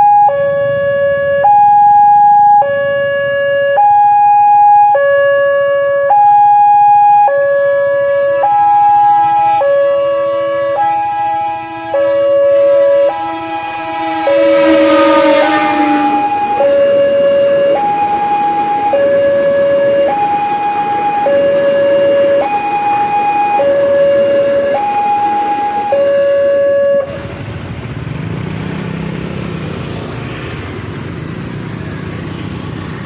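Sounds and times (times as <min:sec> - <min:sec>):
level-crossing two-tone alarm: 0:00.0 - 0:27.2.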